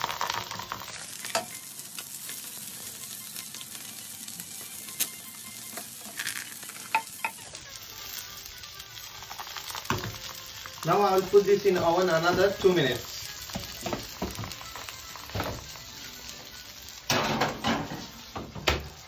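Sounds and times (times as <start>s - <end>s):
butter sizzling on a baking tray: 0.0s - 19.0s.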